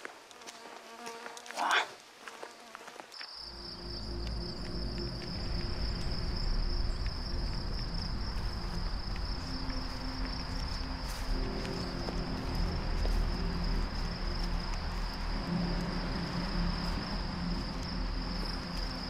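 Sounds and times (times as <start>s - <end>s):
insects trilling: 0.4s - 19.0s
low rumble: 3.6s - 19.0s.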